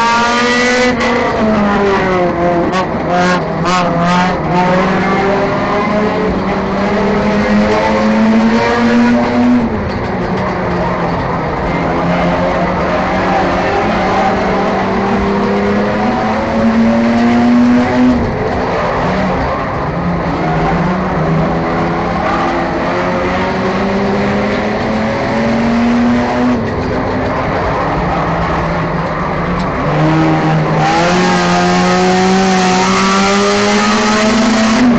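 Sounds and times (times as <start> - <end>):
race car engine revving: 0.0 - 34.9.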